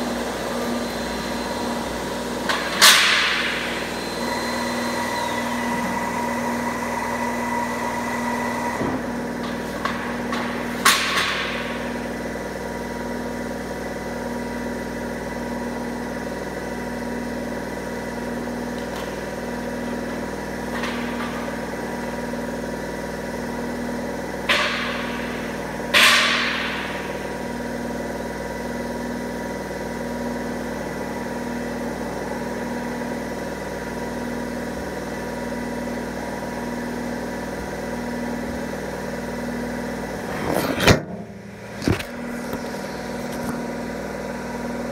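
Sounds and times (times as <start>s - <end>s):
bending machine humming: 0.0s - 44.9s
shop vacuum cleaner running: 0.0s - 44.9s.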